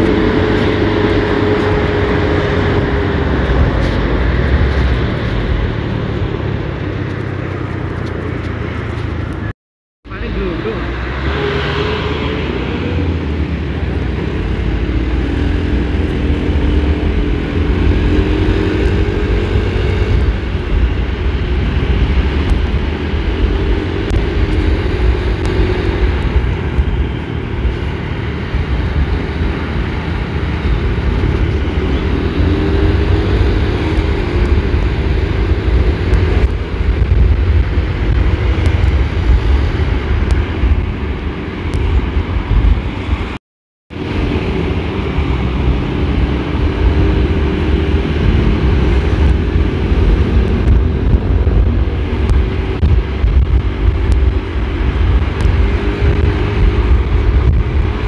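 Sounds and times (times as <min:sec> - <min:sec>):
engine revving: 0:00.0 - 0:09.5, 0:10.1 - 0:58.0
vehicle engines on road: 0:00.0 - 0:58.0.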